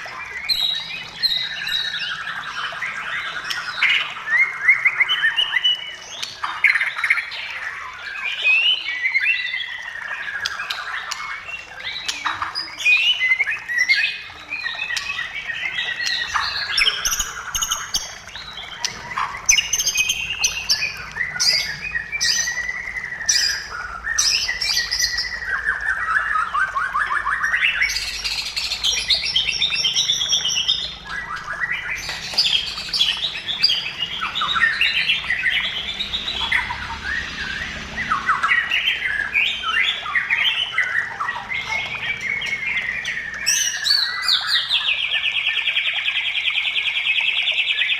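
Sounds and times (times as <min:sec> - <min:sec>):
bird singing whistled trills: 0:00.0 - 0:47.9.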